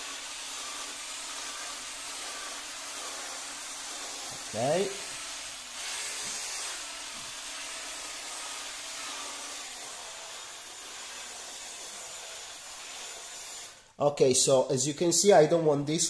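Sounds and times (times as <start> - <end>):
polisher whirring: 0.0 - 13.9.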